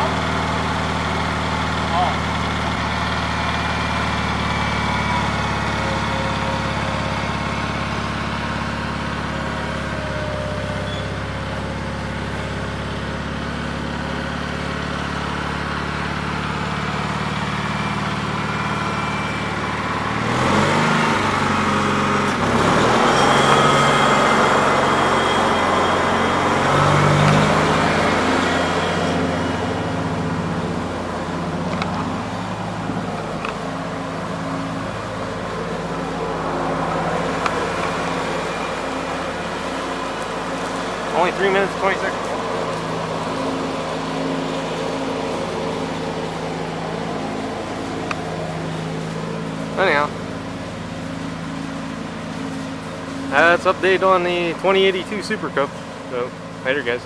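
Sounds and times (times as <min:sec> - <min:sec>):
garden tractor engine mowing: 0:00.0 - 0:57.0.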